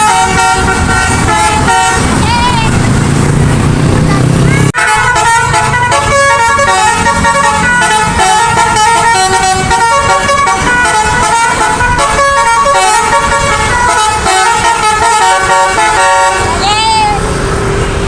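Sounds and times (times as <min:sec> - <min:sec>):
bus musical horn melody: 0:00.0 - 0:03.2, 0:04.3 - 0:18.0
low rumble of bus: 0:00.0 - 0:18.0.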